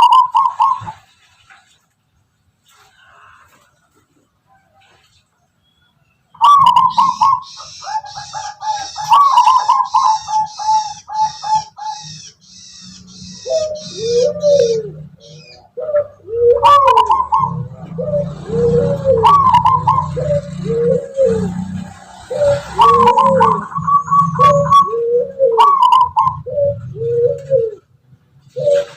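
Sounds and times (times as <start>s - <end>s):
dove cooing: 0.0s - 1.0s, 6.4s - 28.9s.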